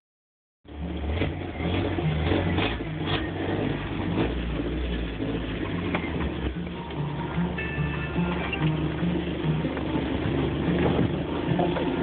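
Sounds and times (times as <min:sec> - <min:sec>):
exhaust ticking: 0:00.6 - 0:12.0
car engine running: 0:00.7 - 0:12.0.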